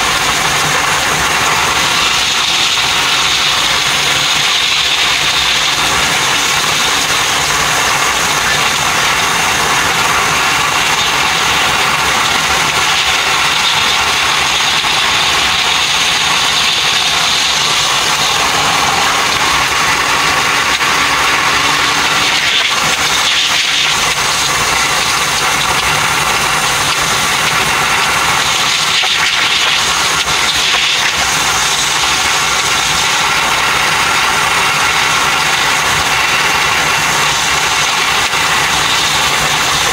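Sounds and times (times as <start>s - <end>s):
electric train running: 0.0s - 39.9s.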